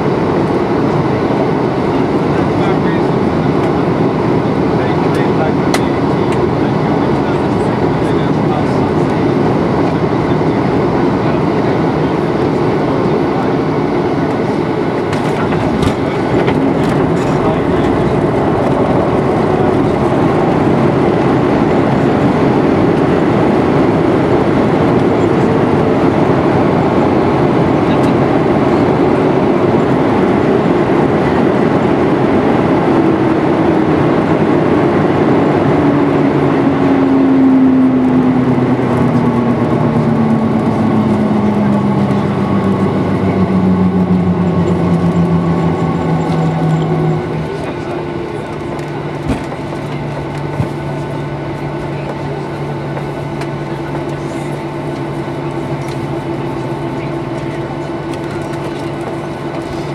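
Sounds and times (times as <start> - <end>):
aircraft cabin rush on landing: 0.0 - 59.9
jet engine whine falling: 0.0 - 59.9.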